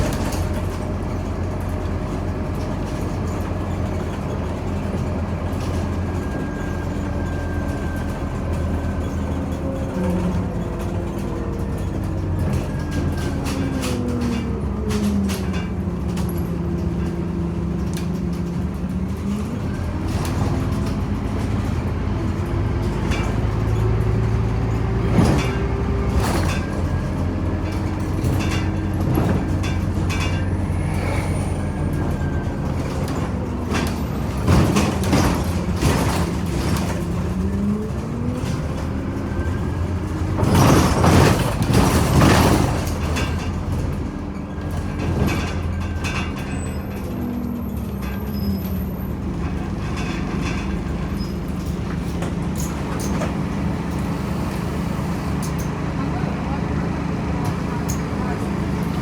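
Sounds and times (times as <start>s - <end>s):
bus engine: 0.0s - 59.0s.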